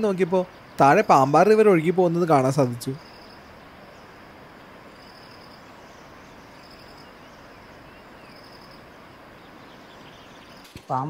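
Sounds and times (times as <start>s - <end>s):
cricket chirping: 0.0s - 10.7s
faint outdoor hiss: 0.0s - 11.0s.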